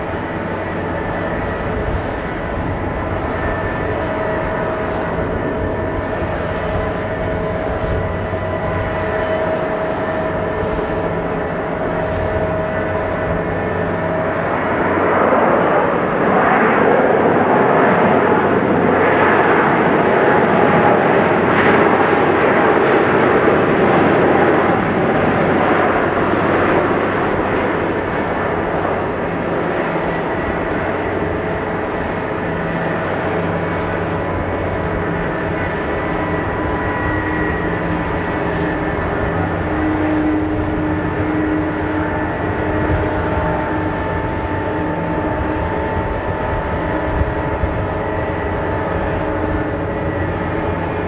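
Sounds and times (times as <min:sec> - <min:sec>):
jet engine hum with whining tones: 0:00.0 - 0:51.0
jet engines reverse thrust roar: 0:00.0 - 0:51.0.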